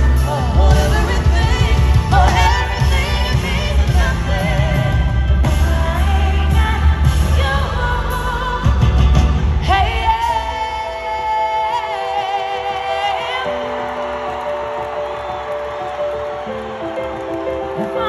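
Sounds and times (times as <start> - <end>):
person singing: 0.0 - 14.6.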